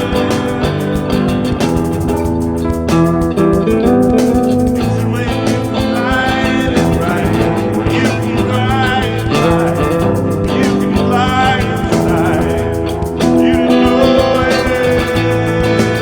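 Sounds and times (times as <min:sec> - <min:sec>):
drum kit steady beat: 0:00.0 - 0:16.0
rock guitar playing: 0:00.0 - 0:16.0.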